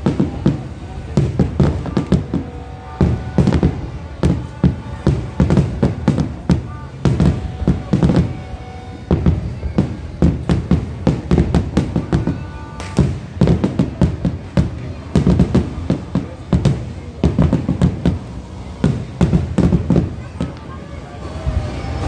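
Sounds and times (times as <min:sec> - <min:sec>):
fireworks bangs and cracks: 0:00.0 - 0:22.0.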